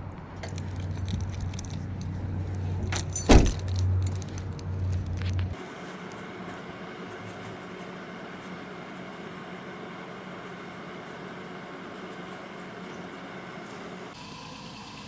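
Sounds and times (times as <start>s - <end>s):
vehicle cabin hum and hiss: 0.0s - 14.4s.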